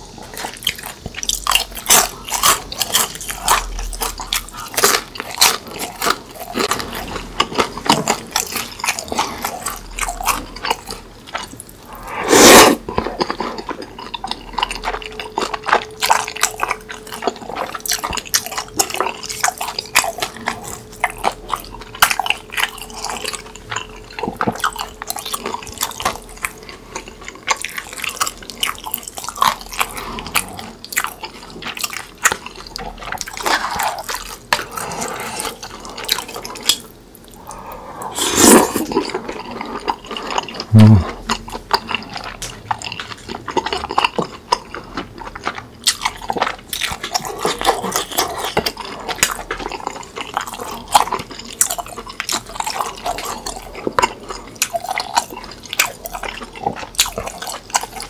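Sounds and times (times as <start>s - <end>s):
chewing and crunching fried food: 0.0s - 58.0s.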